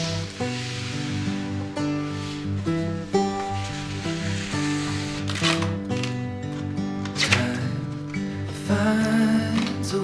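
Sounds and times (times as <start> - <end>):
slow instrumental song: 0.0 - 10.0.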